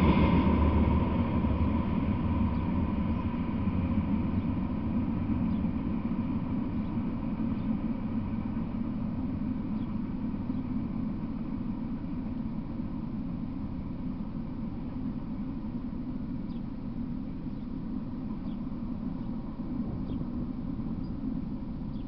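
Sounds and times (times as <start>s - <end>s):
freight train rumble: 0.0s - 22.0s.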